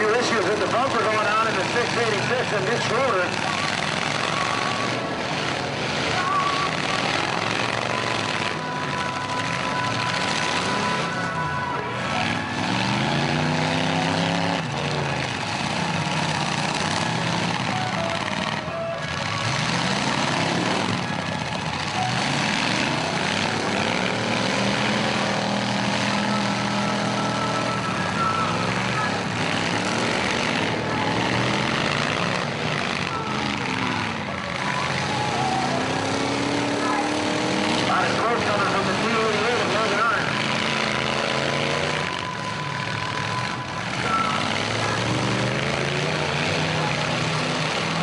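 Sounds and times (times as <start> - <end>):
car and truck engines revving: 0.0 - 48.0.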